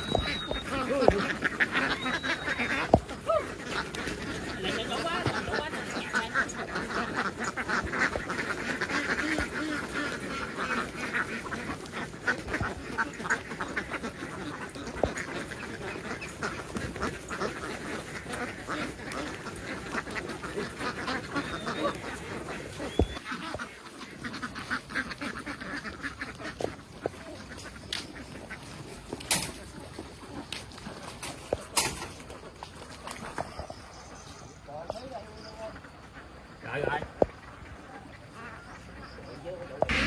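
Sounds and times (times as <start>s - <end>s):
flock of ducks quacking: 0.0s - 40.0s.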